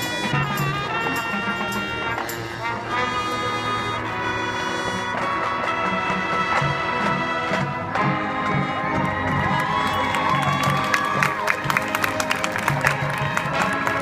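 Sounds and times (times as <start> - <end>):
brass chords: 0.0 - 14.0.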